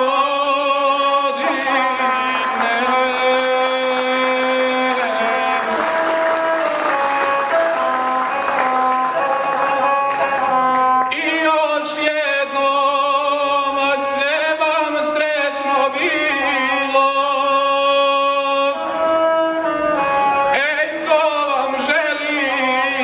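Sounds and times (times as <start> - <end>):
man singing: 0.0 - 6.7, 11.0 - 23.0
bowed single-string fiddle: 1.2 - 11.7, 14.1 - 23.0.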